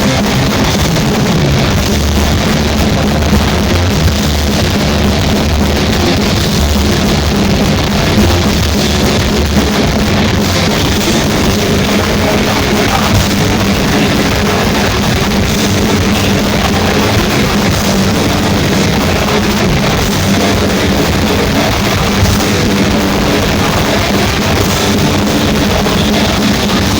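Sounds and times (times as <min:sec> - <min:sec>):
heavy metal band playing live: 0:00.0 - 0:26.9.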